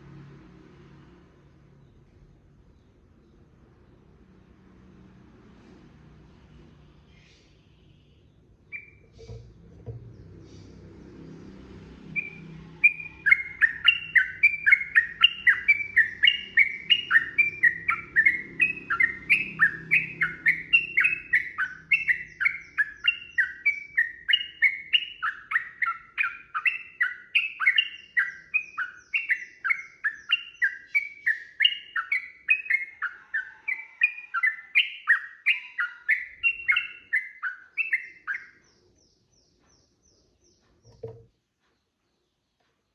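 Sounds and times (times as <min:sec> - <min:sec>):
bird chattering song: 0:07.0 - 0:11.5, 0:12.1 - 0:42.9.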